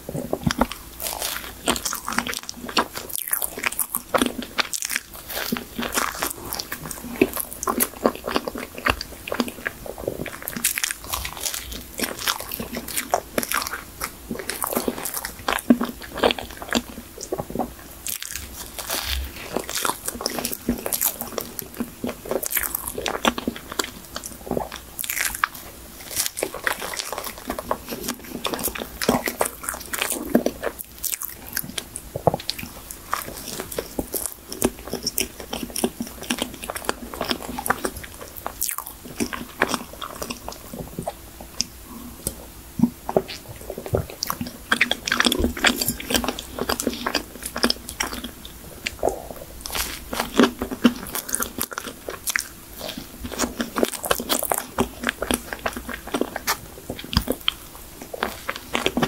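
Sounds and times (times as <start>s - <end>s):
chewing with mouth clicks: 0.0s - 59.0s.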